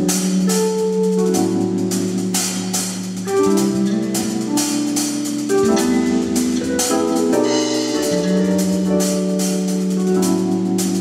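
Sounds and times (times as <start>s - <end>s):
bass line: 0.0s - 11.0s
drum kit with cymbals: 0.0s - 11.0s
keyboard chords: 0.0s - 11.0s.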